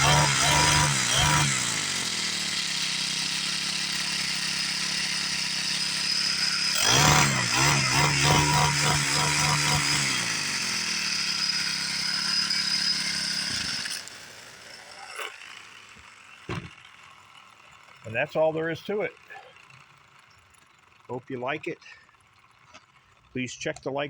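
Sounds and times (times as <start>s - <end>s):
small engine idling and revving: 0.0s - 24.0s.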